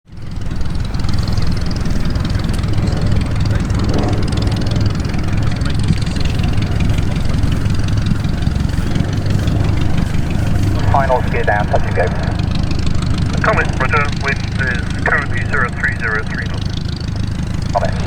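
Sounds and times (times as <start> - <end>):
aircraft engine idling: 0.1 - 18.0.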